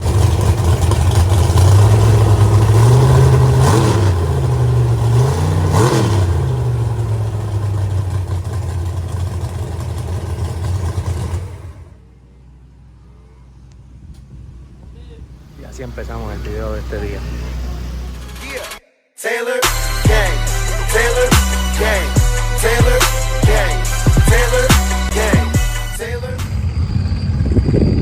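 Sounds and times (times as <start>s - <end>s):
race boat engine running: 0.0s - 12.0s, 14.8s - 18.8s, 19.8s - 28.0s.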